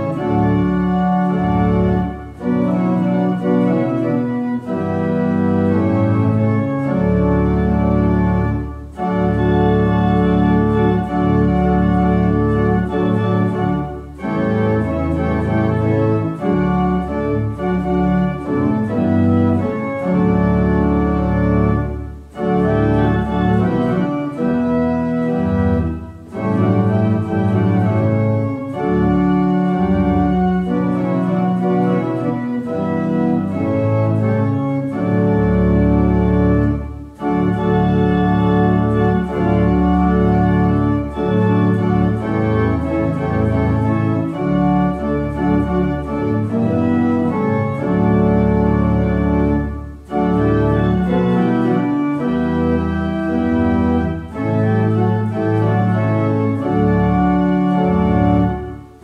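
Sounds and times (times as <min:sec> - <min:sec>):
organ playing hymn chords: 0:00.0 - 0:59.0.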